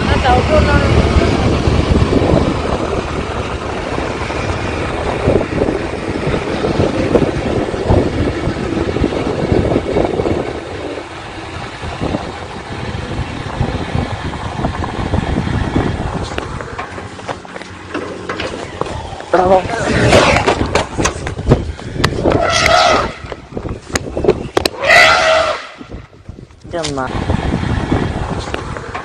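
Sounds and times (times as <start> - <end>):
motorcycle engine: 0.0 - 29.0
road noise: 0.0 - 29.0
rushing wind: 0.0 - 29.0.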